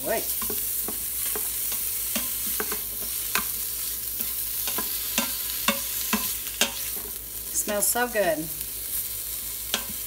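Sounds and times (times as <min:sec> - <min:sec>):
sausage and vegetables sizzling: 0:00.0 - 0:10.0.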